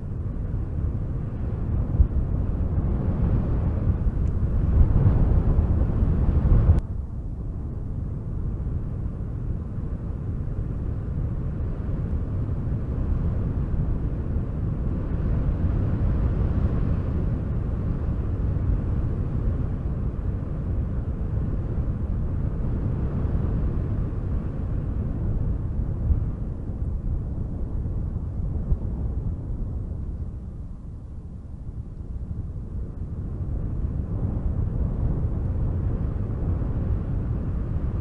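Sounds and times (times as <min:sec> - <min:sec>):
wind blowing: 0:00.0 - 0:38.0.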